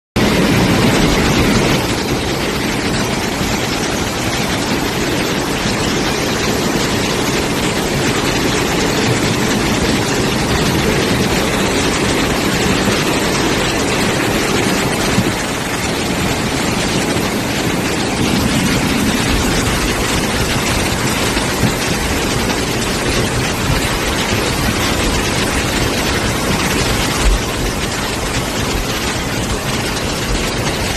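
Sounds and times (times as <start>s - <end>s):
floodwater rushing: 0.2s - 30.9s.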